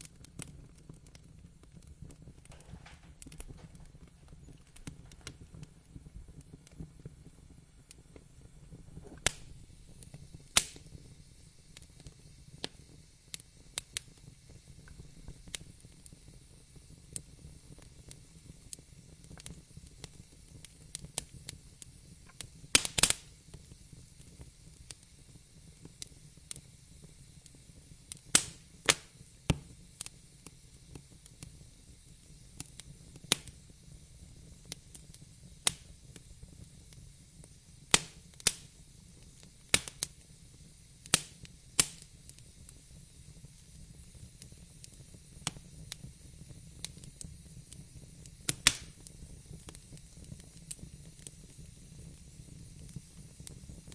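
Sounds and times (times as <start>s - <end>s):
sharp pops and snaps: 0.0s - 53.9s
soft steady hiss: 0.0s - 53.9s
wood fire crackling: 0.0s - 53.9s.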